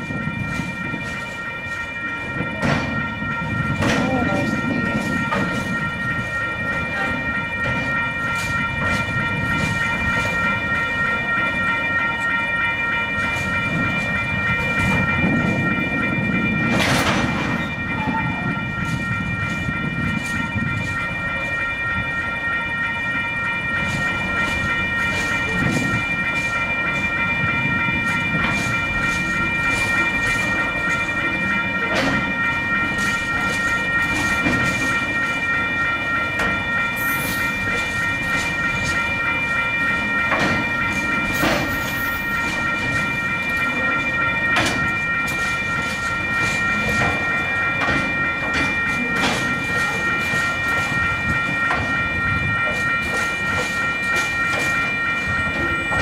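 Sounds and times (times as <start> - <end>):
crossing warning bell ringing: 0.0 - 56.0
freight train wagons rumbling: 0.0 - 56.0.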